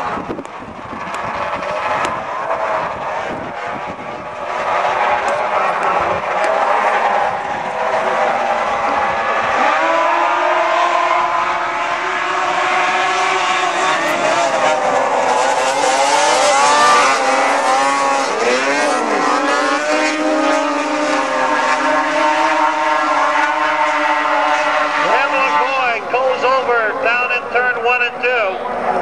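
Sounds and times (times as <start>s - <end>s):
snowmobile engines racing: 0.0s - 29.0s.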